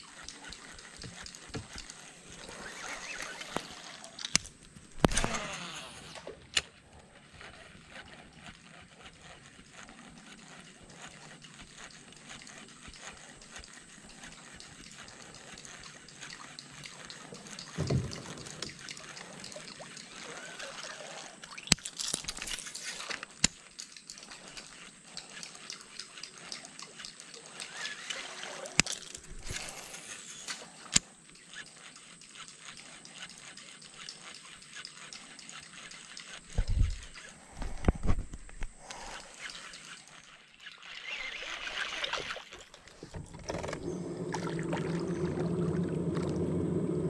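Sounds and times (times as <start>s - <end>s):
fishing line hissing off spool: 0.0s - 6.4s, 7.2s - 46.9s
reel clicks: 0.0s - 45.5s
reel cranking: 0.0s - 47.0s
water lapping against hull: 0.0s - 47.0s.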